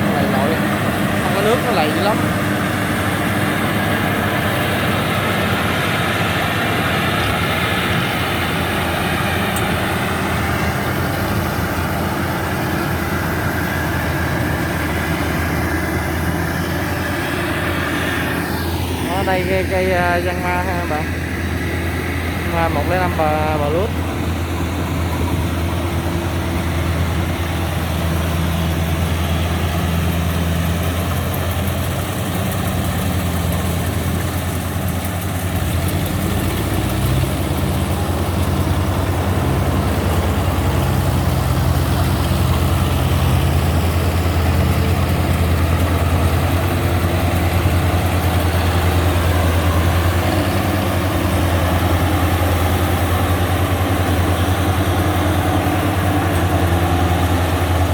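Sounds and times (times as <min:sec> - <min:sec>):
diesel engine humming: 0:00.0 - 0:57.9.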